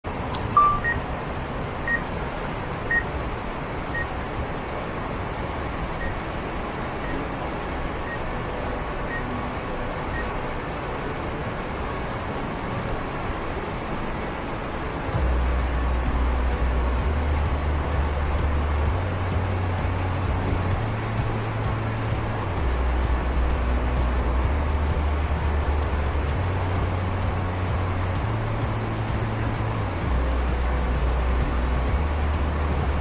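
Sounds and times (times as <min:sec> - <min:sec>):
waterfall roaring: 0:00.1 - 0:33.0.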